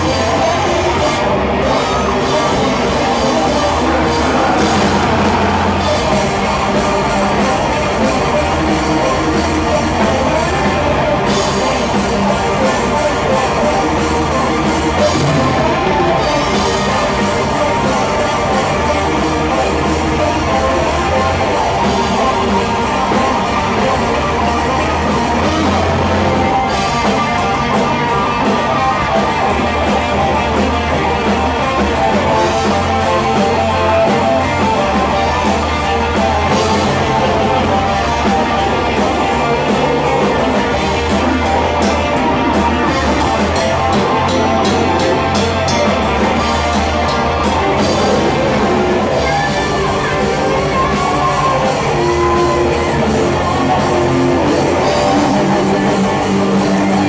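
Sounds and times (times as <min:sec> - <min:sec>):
bass riffing: 0:00.0 - 0:57.0
distorted electric guitar: 0:00.0 - 0:57.0
fast dense drumming: 0:00.0 - 0:57.0.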